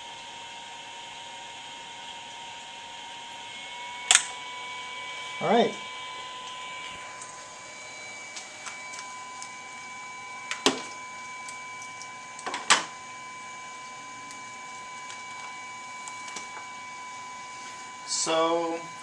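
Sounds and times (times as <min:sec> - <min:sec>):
high electrical whine: 0:00.0 - 0:19.0.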